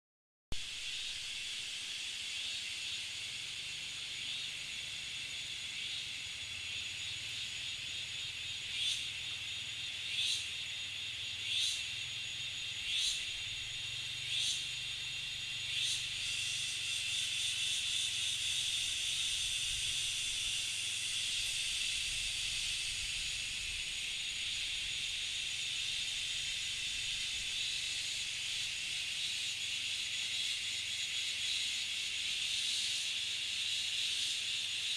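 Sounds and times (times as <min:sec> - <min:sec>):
high insect drone: 0:00.6 - 0:34.9.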